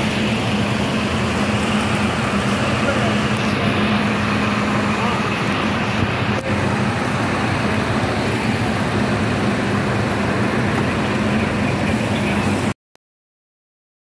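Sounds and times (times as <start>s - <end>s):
traffic hiss on wet street: 0.0s - 12.7s
truck diesel engines droning: 0.0s - 12.8s.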